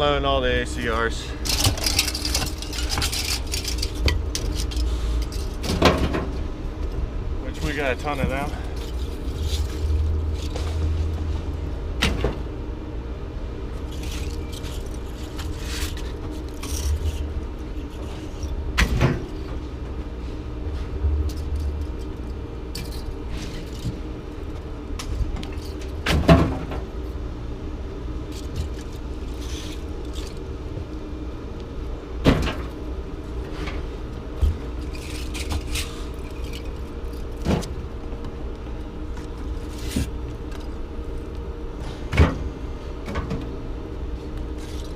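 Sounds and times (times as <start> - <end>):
engine rumble and hum: 0.0 - 44.9.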